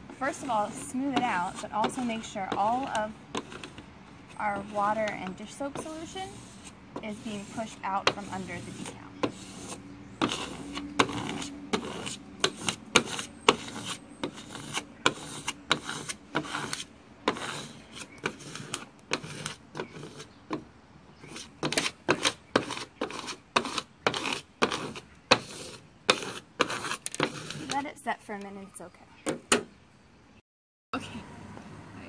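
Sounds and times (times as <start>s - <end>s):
squeegee rubbing on wet window: 0.0s - 28.0s.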